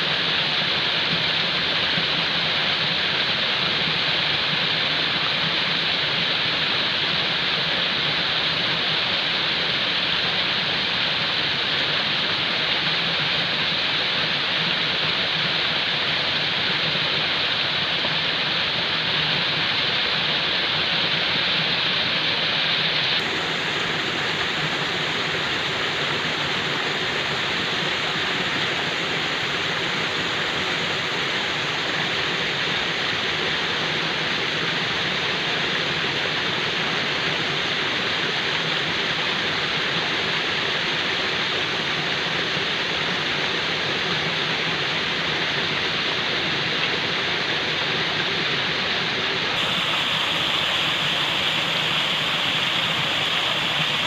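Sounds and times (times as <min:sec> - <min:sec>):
falling water rushing: 0:00.0 - 0:54.0.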